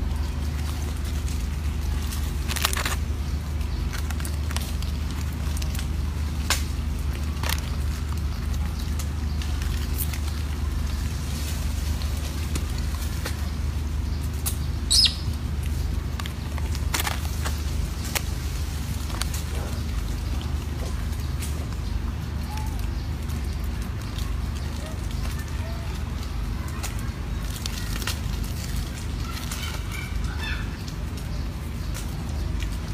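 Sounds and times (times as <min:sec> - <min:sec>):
low rumble: 0:00.0 - 0:29.4.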